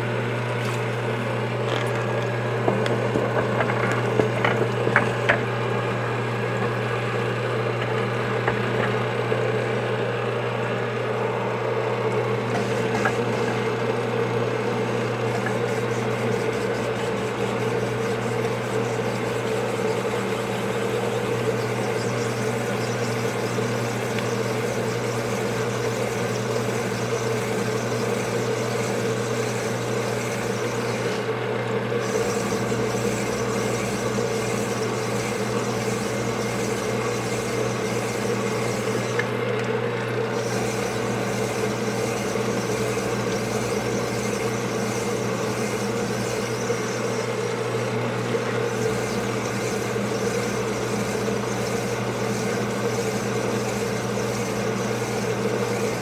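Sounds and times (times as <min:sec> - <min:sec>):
motor hum: 0:00.0 - 0:56.0.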